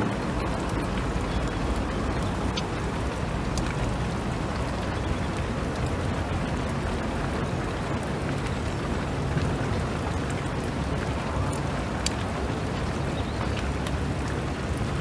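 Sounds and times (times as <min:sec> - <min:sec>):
faint drip ticks: 0:00.0 - 0:15.0
steady rain hiss: 0:00.0 - 0:15.0.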